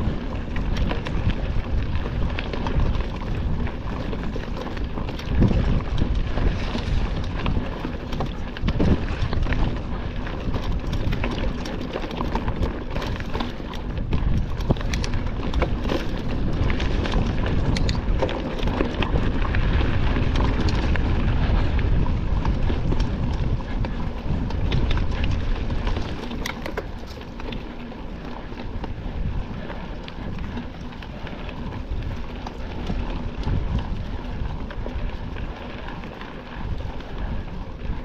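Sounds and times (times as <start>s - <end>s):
bike frame rattle and knocks: 0.0s - 36.8s
bike tyre rumble: 0.0s - 38.0s
wind buffeting microphone: 0.0s - 38.0s.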